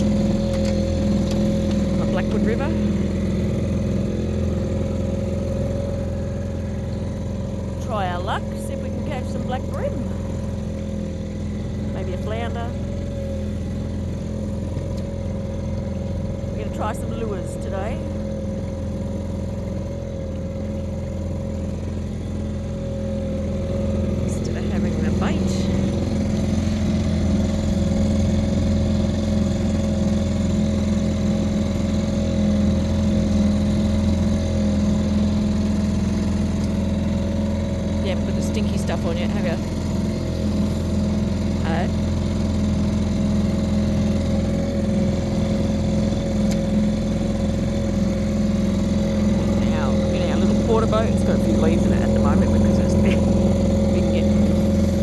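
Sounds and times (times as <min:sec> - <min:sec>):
outboard motor droning: 0:00.0 - 0:55.0.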